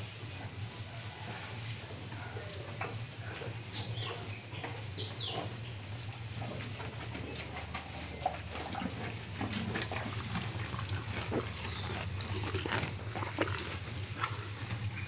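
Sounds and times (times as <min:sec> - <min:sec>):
cows munching fodder: 0:00.0 - 0:15.0
crunching and snuffling: 0:00.0 - 0:15.0
steady low hum: 0:00.0 - 0:15.0.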